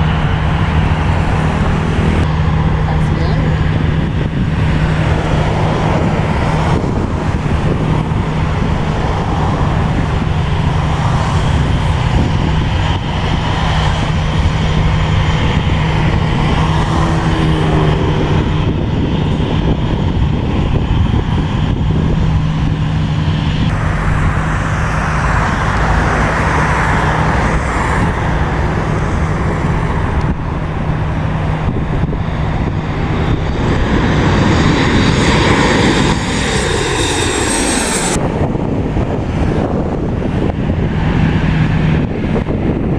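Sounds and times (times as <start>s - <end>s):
engine humming: 0.0s - 42.9s.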